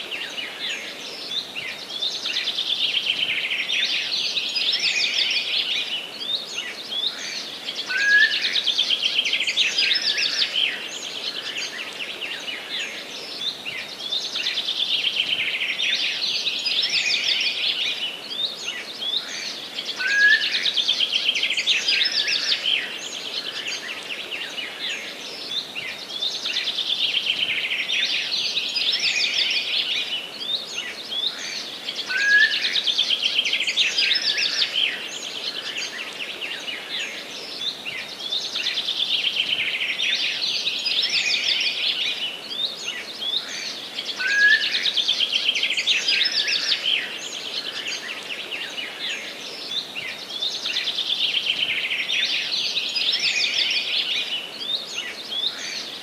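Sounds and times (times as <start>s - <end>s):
faint steady hiss: 0.0s - 56.0s
songbird trilling song: 0.1s - 56.0s.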